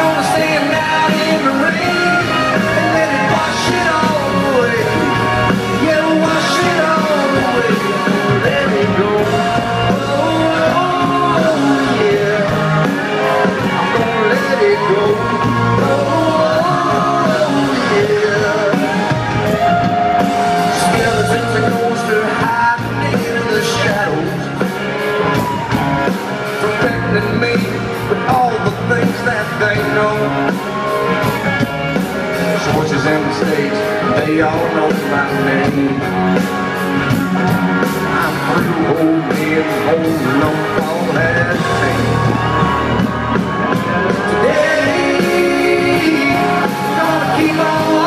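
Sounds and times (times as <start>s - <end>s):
man singing lead vocal: 0.0s - 31.4s, 32.0s - 48.0s
live band music: 0.0s - 48.0s.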